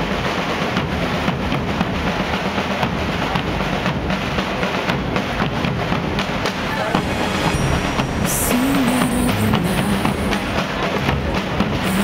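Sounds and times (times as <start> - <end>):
dense steady background noise: 0.0 - 12.0
drums being played: 0.0 - 12.0.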